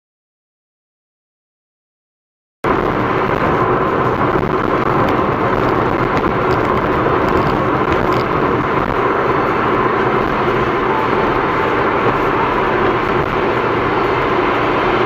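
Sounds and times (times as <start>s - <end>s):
car road and engine noise: 2.6s - 15.0s.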